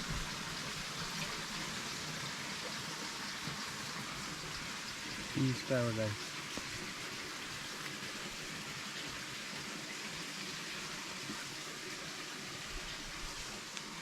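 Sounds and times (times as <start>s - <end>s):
water running hiss: 0.0s - 14.0s.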